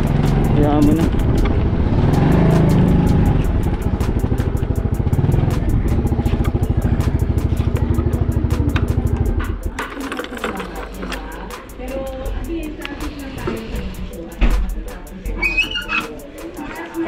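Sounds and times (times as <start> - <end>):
scooter engine running: 0.0 - 14.4.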